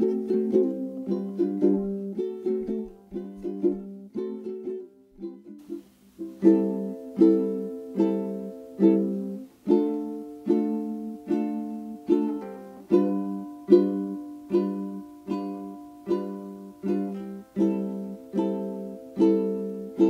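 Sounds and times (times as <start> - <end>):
plucked chords: 0.0 - 20.0.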